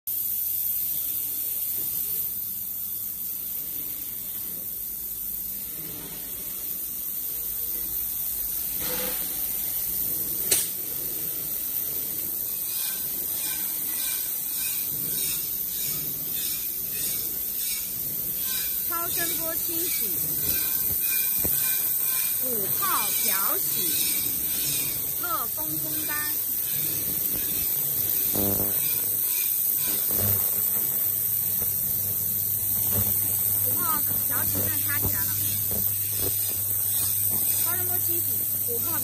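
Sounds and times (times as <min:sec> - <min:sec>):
ultrasonic cleaning tank hissing: 0:00.1 - 0:39.0.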